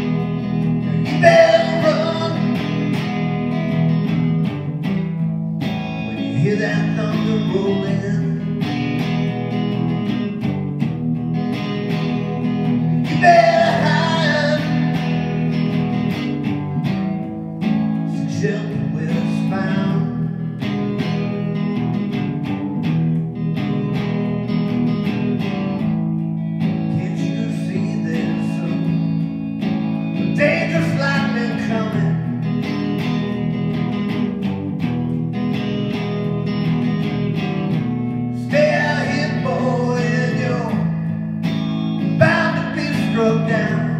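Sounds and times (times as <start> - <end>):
electric guitar playing: 0.0 - 43.9.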